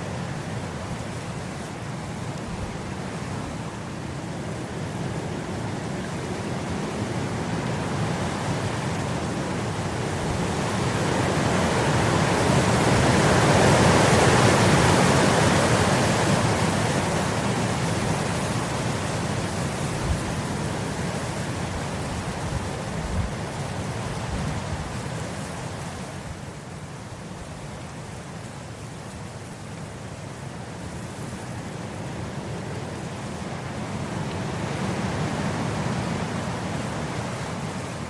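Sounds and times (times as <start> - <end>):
wind blowing through grass: 0.0 - 38.0.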